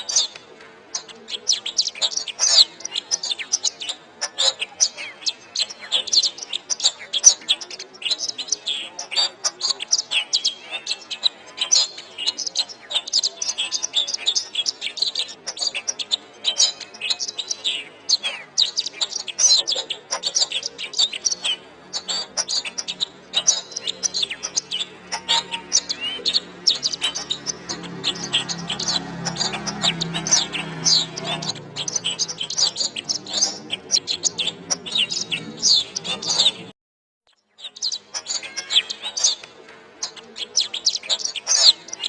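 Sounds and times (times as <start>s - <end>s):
canary singing: 0.0s - 36.7s, 37.3s - 42.0s.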